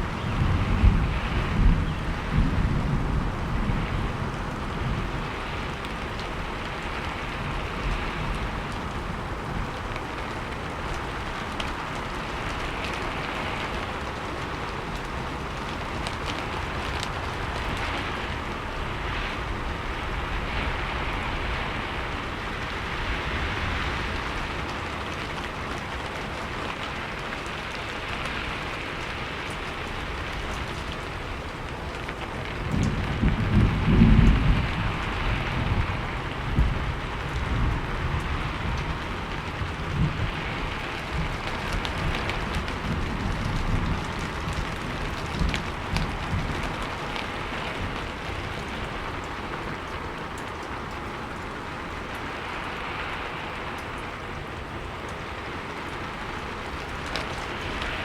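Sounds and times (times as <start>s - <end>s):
low rumble of thunder: 0.0s - 58.0s
rain falling: 0.0s - 58.0s.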